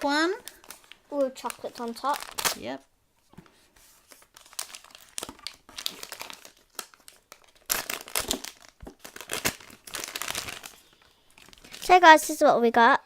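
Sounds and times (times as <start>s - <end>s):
plastic packaging crinkling: 0.0s - 2.8s, 3.4s - 12.4s
plastic tearing: 0.0s - 2.8s, 4.1s - 12.0s.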